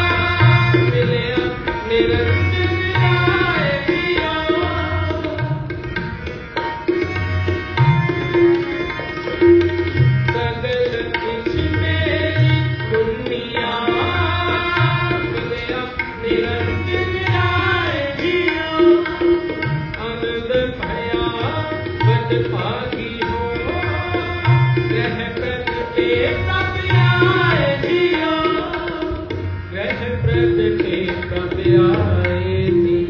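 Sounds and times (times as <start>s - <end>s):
harmonium tones: 0.0s - 33.0s
tabla playing: 0.0s - 33.0s.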